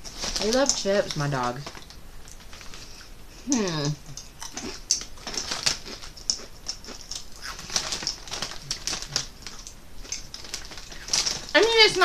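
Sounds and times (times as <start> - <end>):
potato chips crunching: 0.0 - 12.0.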